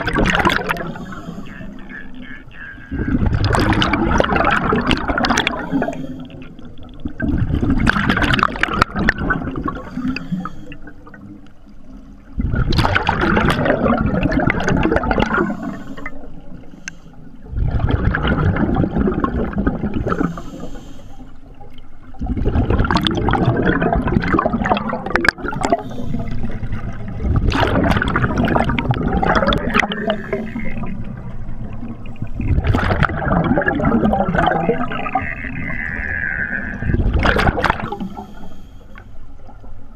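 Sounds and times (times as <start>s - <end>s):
underwater regulator bubbles: 0.0s - 20.9s, 21.6s - 38.7s.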